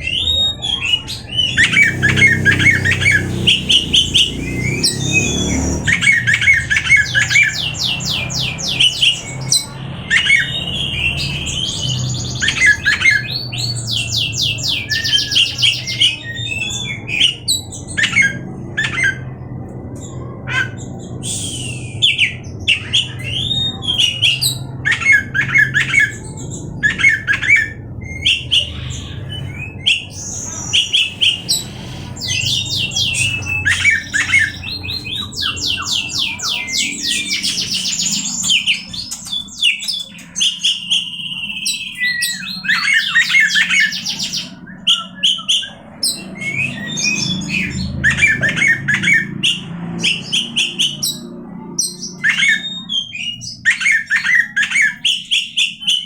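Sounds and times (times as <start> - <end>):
magpie-robin singing: 0.0 - 56.0.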